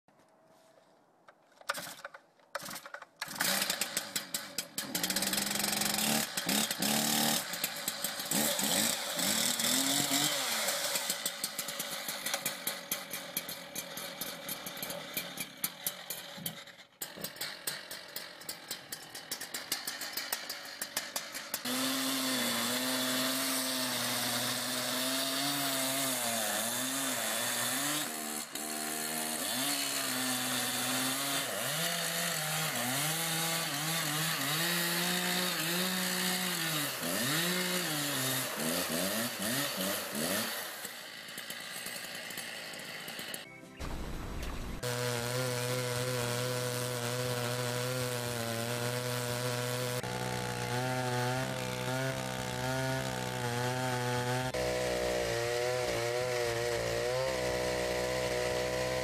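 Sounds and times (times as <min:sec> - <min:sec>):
chainsaw cutting logs: 0:01.3 - 0:59.0
chainsaw starting and revving: 0:01.7 - 0:59.0.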